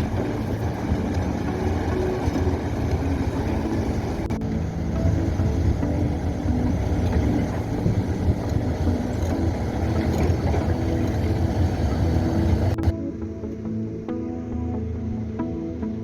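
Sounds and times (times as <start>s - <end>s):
piling rig rumbling: 0.0s - 13.0s.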